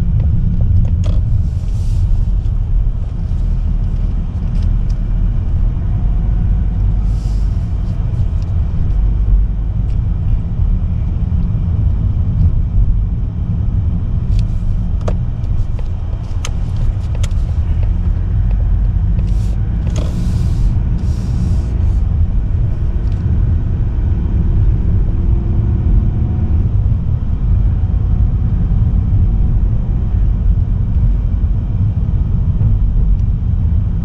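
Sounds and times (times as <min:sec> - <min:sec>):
car road rumble from inside: 0:00.0 - 0:34.0.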